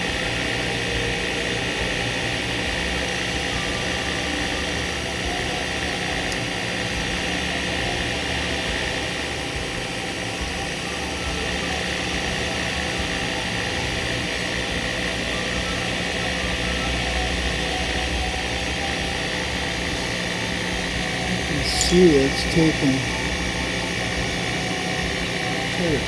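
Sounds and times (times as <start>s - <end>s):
milling machine running: 0.0s - 26.0s.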